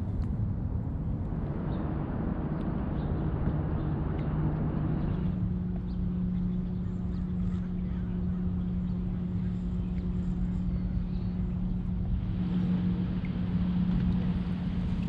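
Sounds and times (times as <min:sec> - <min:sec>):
distant motorboat engine droning: 0:00.0 - 0:15.0
low rumble of wind and water: 0:00.0 - 0:15.0.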